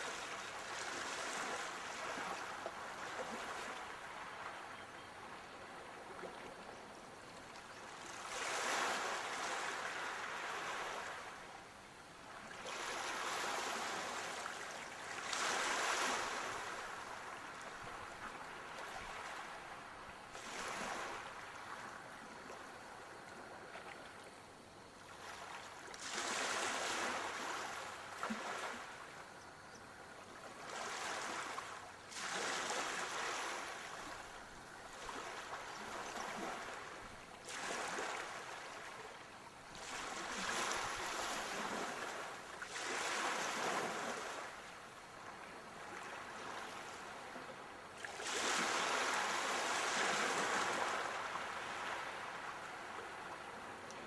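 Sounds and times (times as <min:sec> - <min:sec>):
sea waves breaking on shore: 0:00.0 - 0:04.7, 0:07.4 - 0:24.2, 0:25.0 - 0:29.3, 0:30.0 - 0:54.0.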